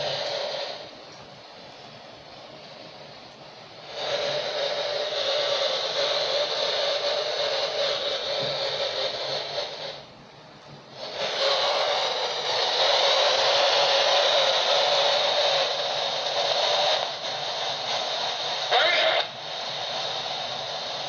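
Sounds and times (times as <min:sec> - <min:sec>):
radio static hiss: 0:00.0 - 0:10.1, 0:10.9 - 0:21.0.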